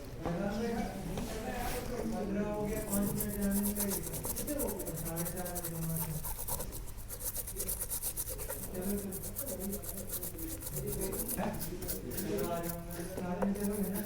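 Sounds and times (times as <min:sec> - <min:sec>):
rapid scrubbing strokes: 0:02.7 - 0:14.0.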